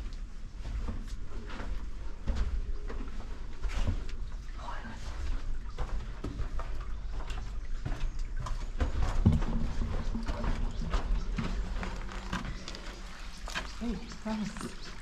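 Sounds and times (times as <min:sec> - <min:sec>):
footsteps on stony ground: 0:00.0 - 0:15.0.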